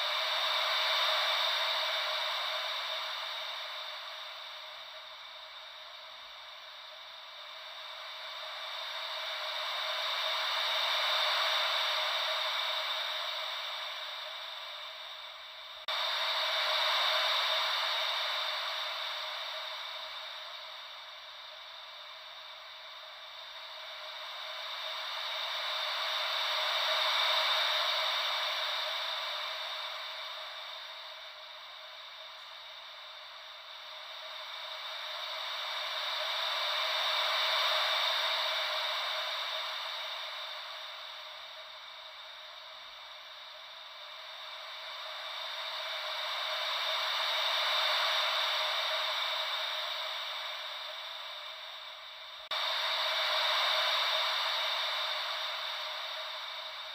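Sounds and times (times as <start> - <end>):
white noise ocean waves: 0.0 - 56.9.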